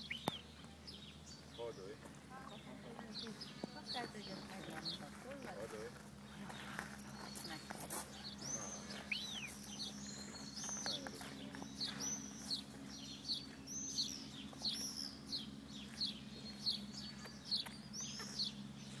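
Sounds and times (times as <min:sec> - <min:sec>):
bird chirping: 0:00.0 - 0:19.0
faint low hum: 0:00.0 - 0:19.0.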